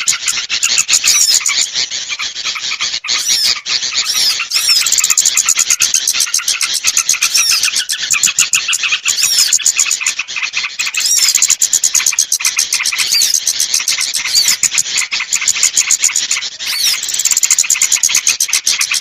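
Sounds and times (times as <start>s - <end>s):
rapid high chirping lure call: 0.0s - 19.0s.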